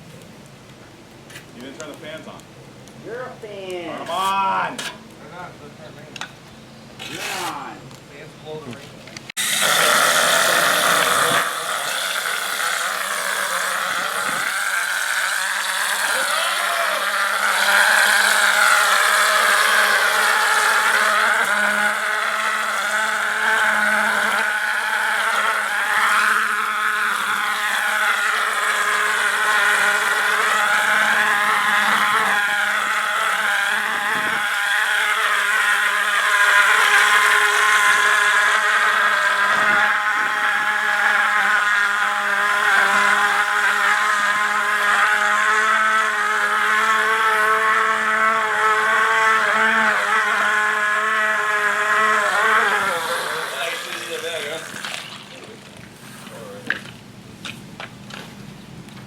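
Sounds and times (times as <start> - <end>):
motor running steadily: 1.3 - 59.0.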